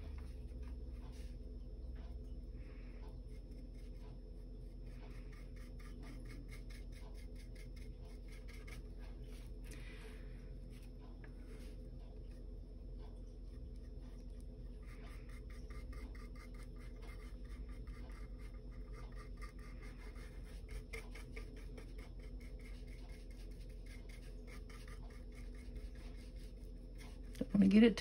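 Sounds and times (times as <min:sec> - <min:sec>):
paintbrush scratching on wood: 0:03.1 - 0:09.6, 0:10.6 - 0:27.9.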